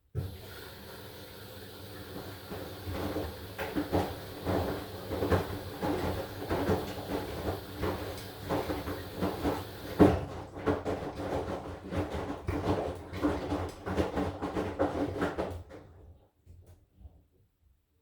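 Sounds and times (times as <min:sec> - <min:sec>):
washing machine tumbling laundry: 0:00.0 - 0:16.8.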